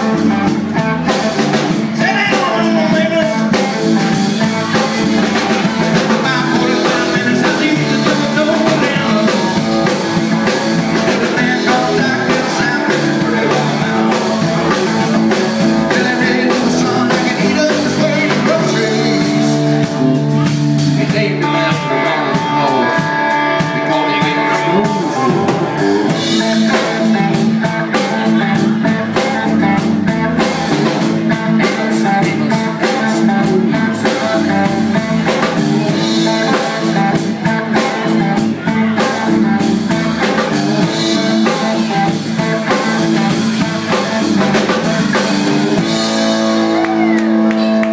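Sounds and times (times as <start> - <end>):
drum kit: 0.0 - 47.9
electric and acoustic guitars: 0.0 - 47.9
person singing: 0.0 - 47.9.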